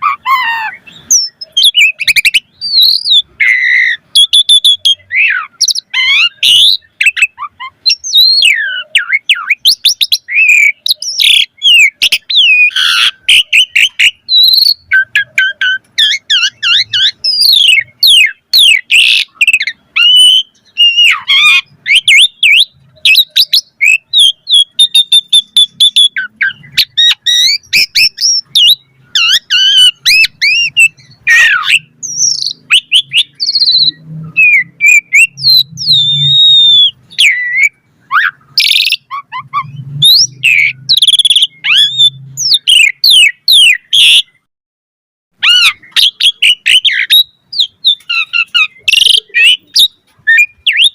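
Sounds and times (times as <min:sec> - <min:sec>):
starling singing whistles and trills: 0:00.0 - 0:44.5, 0:45.4 - 0:50.9.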